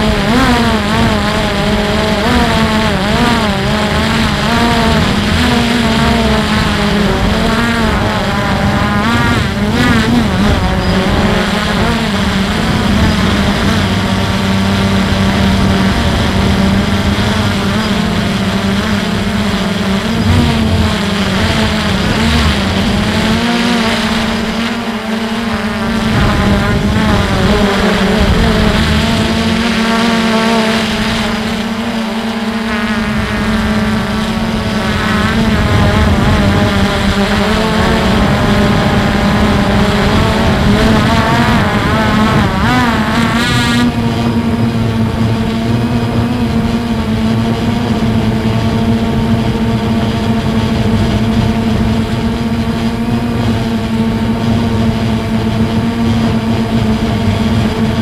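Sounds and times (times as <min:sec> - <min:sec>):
wind rumbling on microphone: 0:00.0 - 0:32.0, 0:32.8 - 0:58.0
drone motors buzzing: 0:00.0 - 0:58.0.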